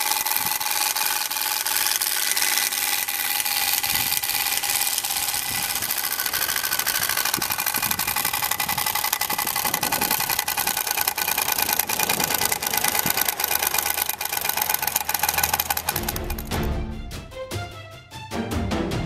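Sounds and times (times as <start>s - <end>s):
card rattling against bicycle spokes: 0.0s - 16.7s.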